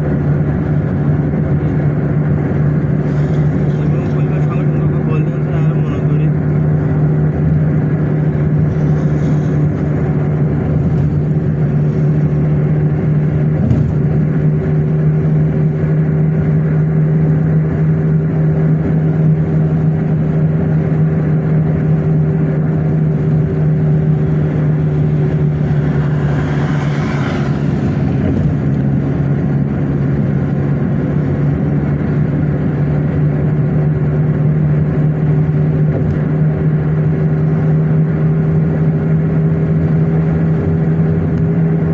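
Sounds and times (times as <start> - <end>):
car engine and road hum: 0.0 - 41.9.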